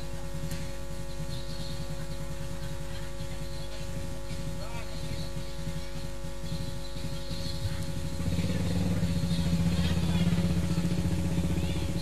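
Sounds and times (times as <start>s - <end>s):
engine running with fast pulse: 0.0s - 12.0s
faint children's voices: 0.4s - 12.0s.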